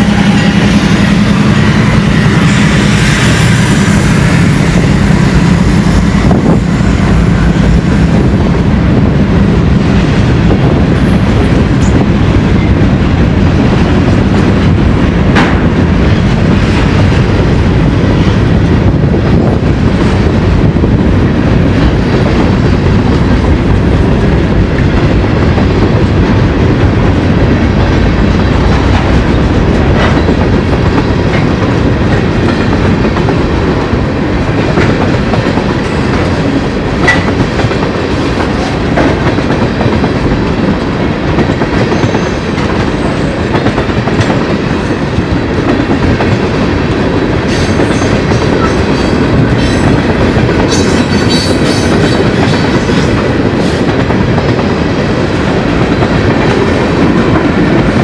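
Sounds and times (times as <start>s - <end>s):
diesel locomotive engines droning: 0.0s - 58.0s
train wheels clattering on rails: 0.0s - 58.0s.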